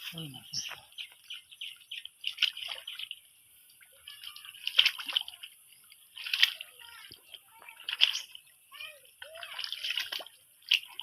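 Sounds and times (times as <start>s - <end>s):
shallow water splashing: 0.0s - 11.0s
water trickling: 0.0s - 11.0s.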